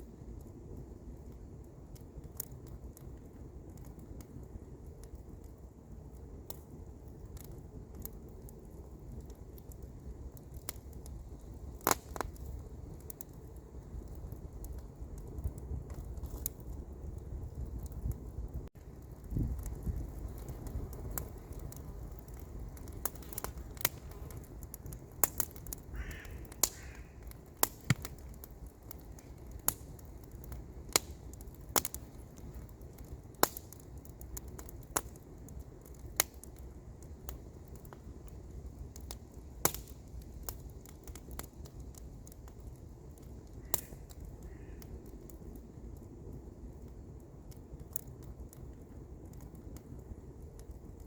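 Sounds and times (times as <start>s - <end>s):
campfire popping and snapping: 0.0s - 51.0s
low rumble of fire: 0.0s - 51.0s.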